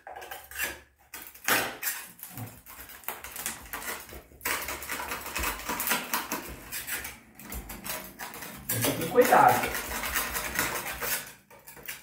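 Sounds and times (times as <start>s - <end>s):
metal spatula scraping grout: 0.0s - 12.0s.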